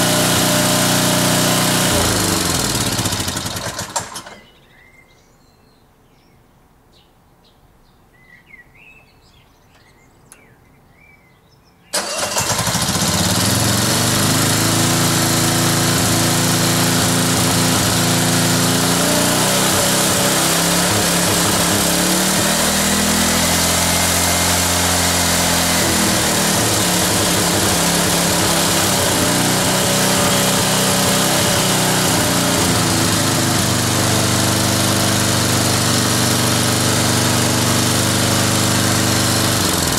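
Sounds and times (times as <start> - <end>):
mower engine running: 0.0 - 4.5, 12.0 - 39.9.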